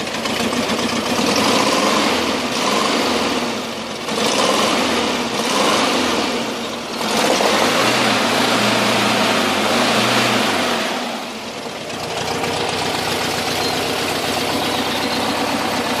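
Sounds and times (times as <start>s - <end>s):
engine knocking and revving: 0.0s - 16.0s.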